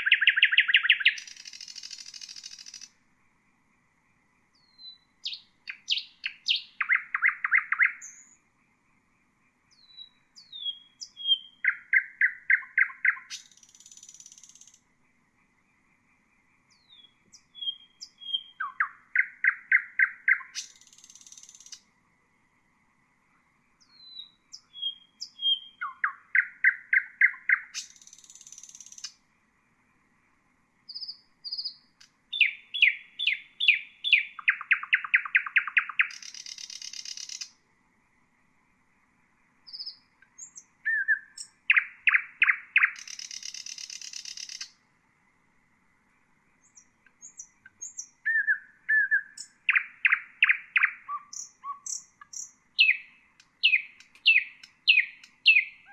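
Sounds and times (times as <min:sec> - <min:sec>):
nightingale singing: 0:00.0 - 0:03.2, 0:04.4 - 0:08.6, 0:09.2 - 0:22.0, 0:23.7 - 0:29.3, 0:30.8 - 0:37.7, 0:39.6 - 0:44.9, 0:46.5 - 0:55.9.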